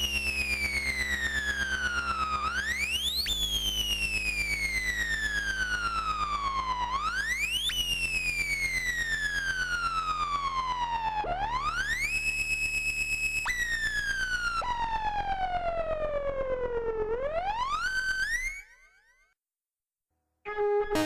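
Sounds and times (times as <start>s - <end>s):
siren-like synthesizer tone: 0.0s - 18.6s, 20.5s - 21.0s.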